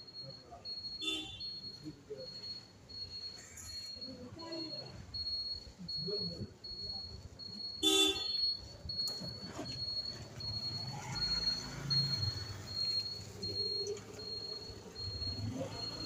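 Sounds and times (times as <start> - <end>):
soft low voices: 0.0 - 16.0.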